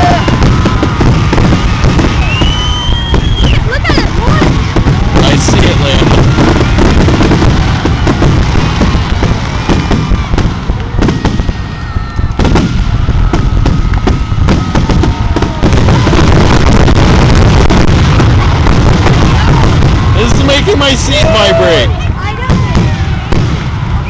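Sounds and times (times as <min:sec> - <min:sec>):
fireworks booming and crackling: 0:00.0 - 0:24.0
heavy low rumble: 0:00.0 - 0:24.0.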